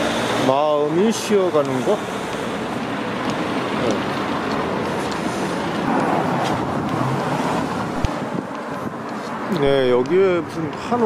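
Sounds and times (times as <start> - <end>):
car driving by: 0.0 - 11.0.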